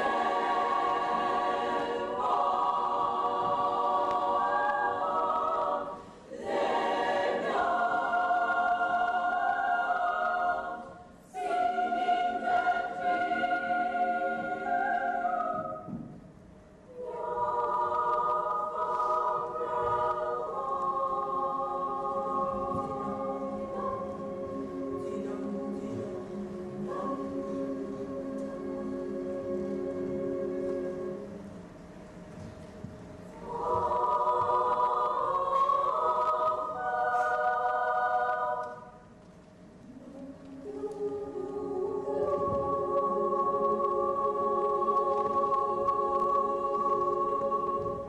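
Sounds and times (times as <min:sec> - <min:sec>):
children's choir singing: 0:00.0 - 0:16.2, 0:16.9 - 0:31.7, 0:33.3 - 0:39.2, 0:39.8 - 0:48.0.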